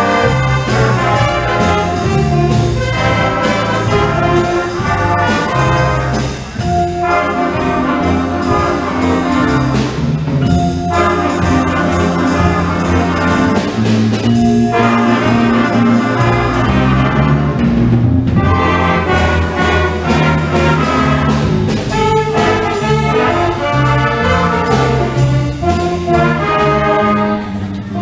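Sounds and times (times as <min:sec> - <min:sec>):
school band playing: 0:00.0 - 0:28.0.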